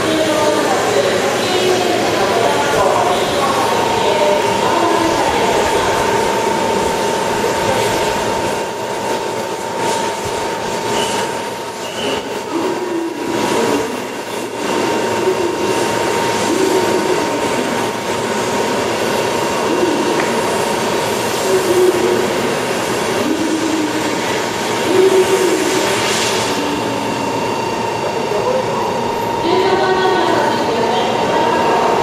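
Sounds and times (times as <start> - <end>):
train rail and wheel noise: 0.0 - 32.0.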